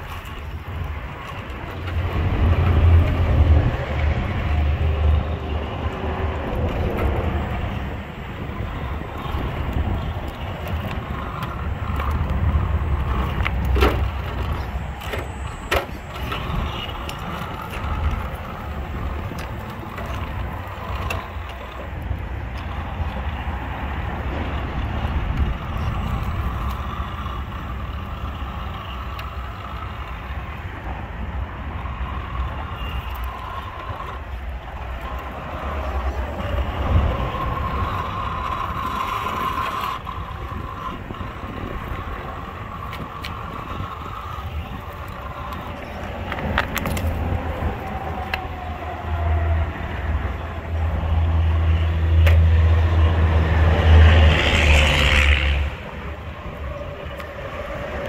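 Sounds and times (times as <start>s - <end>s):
rc car motor whining: 0.0s - 58.0s.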